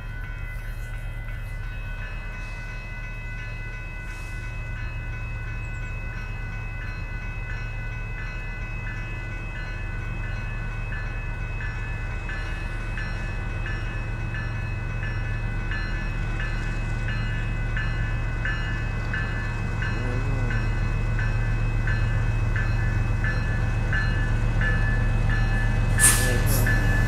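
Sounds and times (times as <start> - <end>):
crossing warning bell ringing: 0.0 - 27.0
diesel locomotive rumbling: 0.0 - 27.0.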